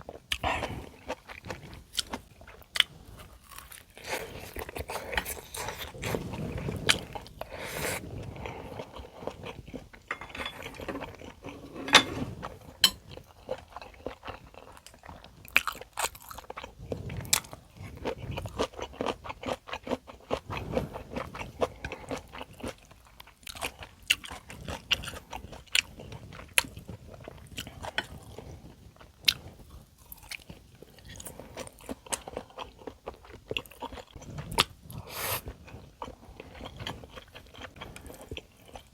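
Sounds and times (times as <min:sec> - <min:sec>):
person chewing and crunching food: 0:00.0 - 0:11.8, 0:12.4 - 0:38.9.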